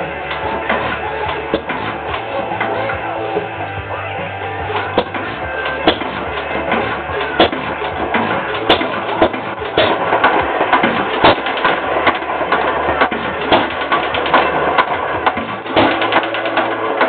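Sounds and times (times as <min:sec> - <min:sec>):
hit-and-miss engine popping: 0:00.0 - 0:17.0
mechanical clatter: 0:00.0 - 0:17.0.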